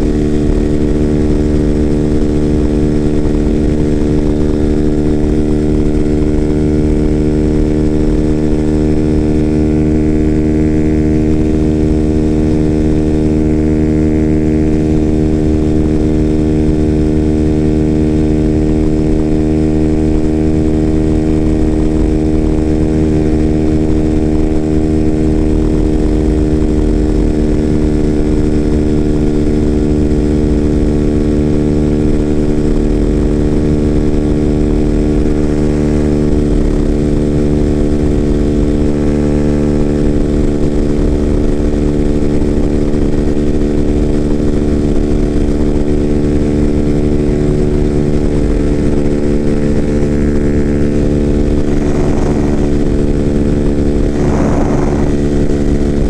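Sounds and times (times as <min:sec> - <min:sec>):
low wind rumble: 0:00.0 - 0:56.0
motorcycle engine cruising: 0:00.0 - 0:56.0.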